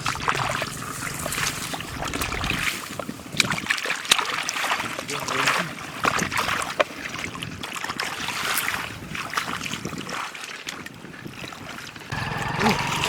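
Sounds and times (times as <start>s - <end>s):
water sloshing and splashing: 0.0s - 12.1s.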